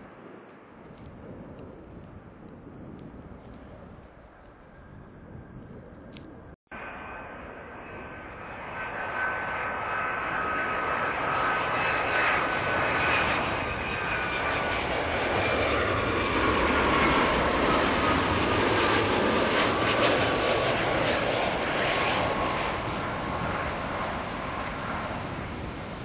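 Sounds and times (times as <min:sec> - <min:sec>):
jet engines rumble and whine: 0:00.0 - 0:26.0.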